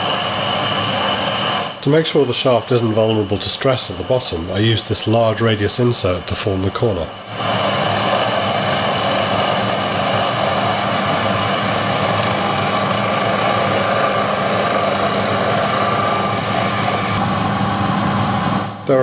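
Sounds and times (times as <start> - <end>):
high hiss of cutting: 0.0 - 17.2
lathe motor whine: 0.0 - 18.9.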